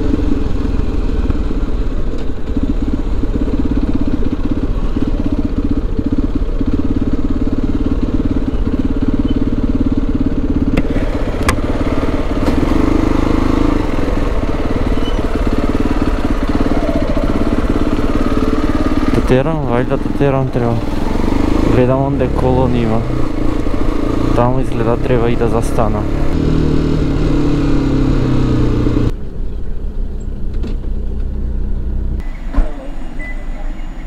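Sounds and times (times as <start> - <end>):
motorcycle engine running: 0.0 - 32.3.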